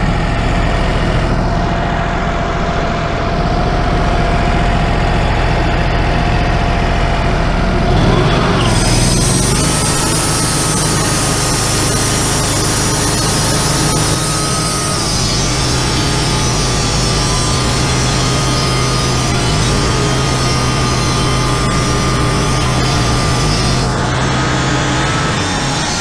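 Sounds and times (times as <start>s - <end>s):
band saw blade whining: 0.0s - 26.0s
sawmill engine running: 0.0s - 26.0s.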